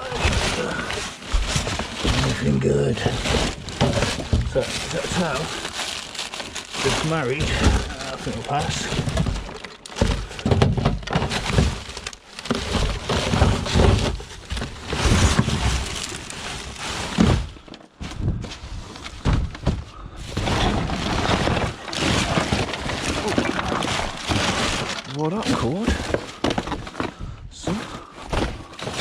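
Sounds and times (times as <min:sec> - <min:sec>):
junk knocking and clattering: 0:00.0 - 0:29.0.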